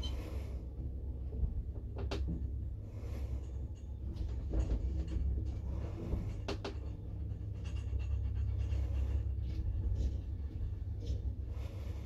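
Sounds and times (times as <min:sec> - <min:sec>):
elevator rumble and hum: 0:00.0 - 0:12.0.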